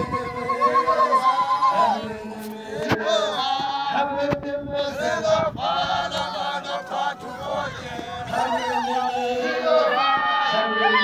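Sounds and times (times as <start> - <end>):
men chanting and singing: 0.0 - 11.0.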